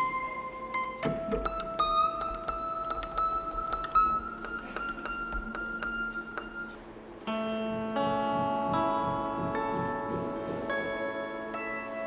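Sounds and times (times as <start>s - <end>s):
piano strings plucked: 0.0s - 12.0s
ringing piano chord: 0.0s - 12.0s.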